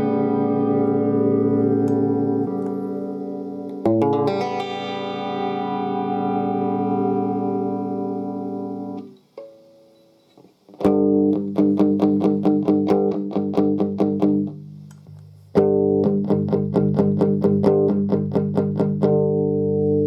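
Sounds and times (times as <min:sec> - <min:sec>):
electric guitar strumming chords: 0:00.0 - 0:20.0.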